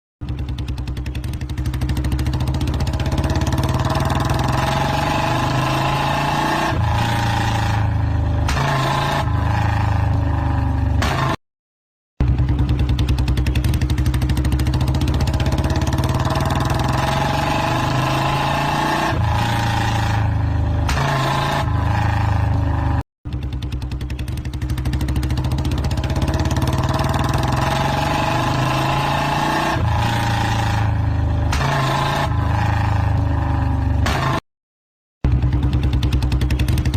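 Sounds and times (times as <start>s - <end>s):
motorcycle engine revving: 0.2s - 11.4s, 12.2s - 34.4s, 35.2s - 36.9s.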